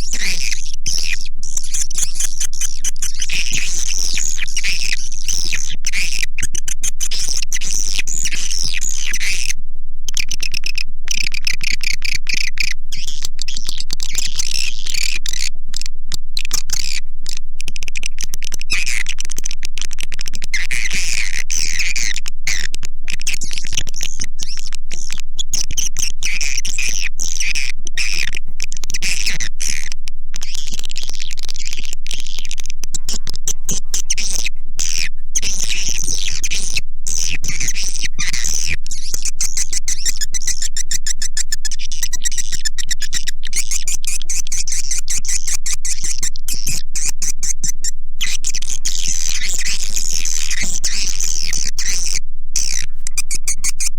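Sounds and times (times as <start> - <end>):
swiftlets twittering and chirping: 0.0 - 9.5, 10.1 - 19.4, 20.5 - 53.9.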